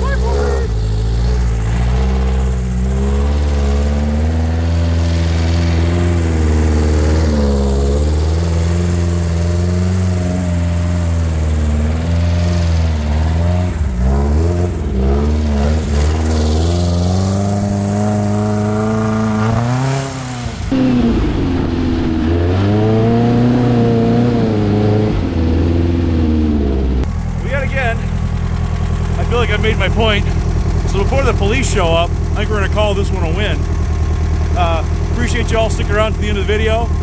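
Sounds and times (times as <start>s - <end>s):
engine revving up and down: 0.0s - 37.0s.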